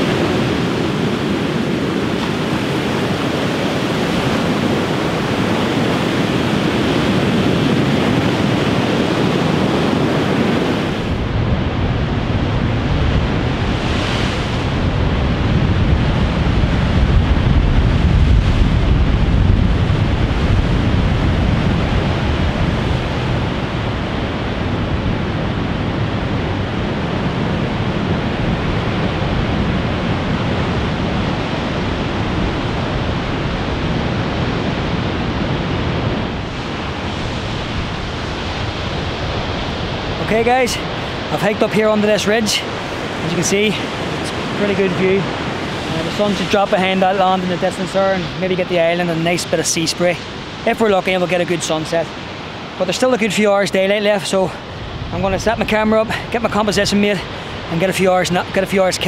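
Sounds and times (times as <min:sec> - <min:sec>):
surf breaking on beach: 0:00.0 - 0:59.0
wind buffeting microphone: 0:00.0 - 0:59.0.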